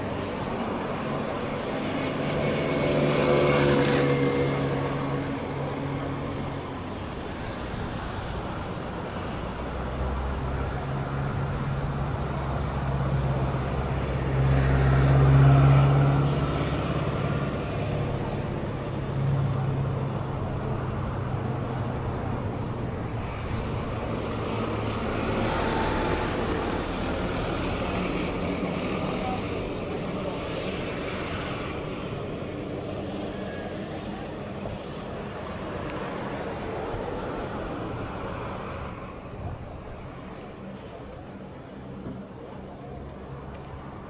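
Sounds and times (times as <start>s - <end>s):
hum of road traffic: 0.0s - 44.0s.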